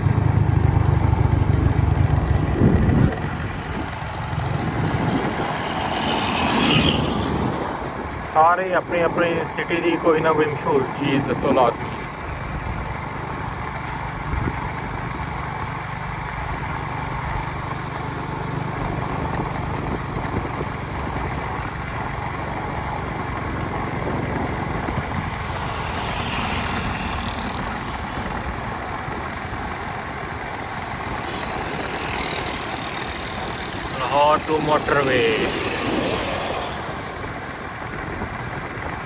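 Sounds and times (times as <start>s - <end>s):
vehicle engine and road noise: 0.0s - 39.0s.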